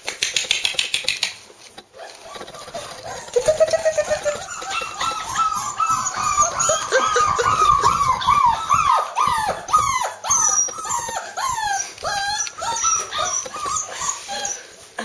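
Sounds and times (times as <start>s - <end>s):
puppy yipping: 1.9s - 14.8s.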